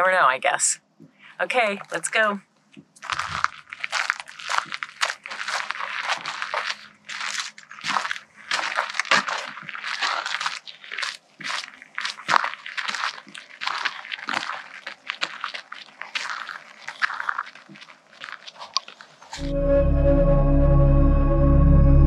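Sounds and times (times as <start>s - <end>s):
running footsteps on gravel: 1.4s - 19.4s.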